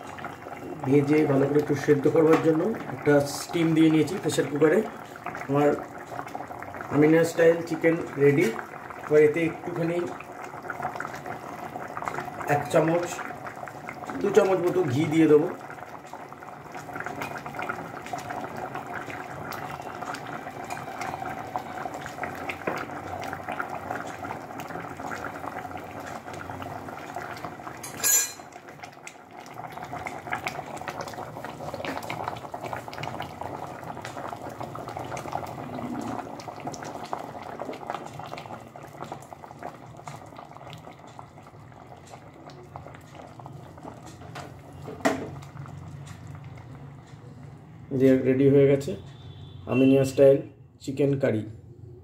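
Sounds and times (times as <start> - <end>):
curry bubbling in a pot: 0.0 - 47.6.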